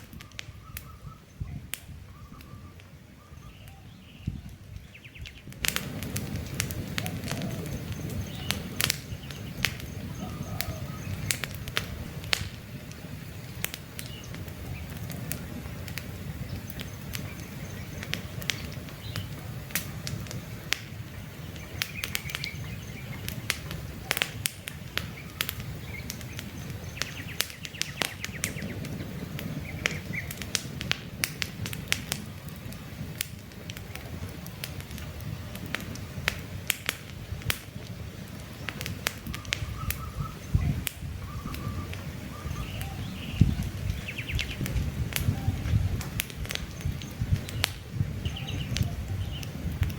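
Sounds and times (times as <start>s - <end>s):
campfire crackling and popping: 0.0s - 49.9s
low rush of flames: 0.0s - 49.9s
faint birds chirping: 0.1s - 5.6s, 6.4s - 30.5s, 37.9s - 49.9s.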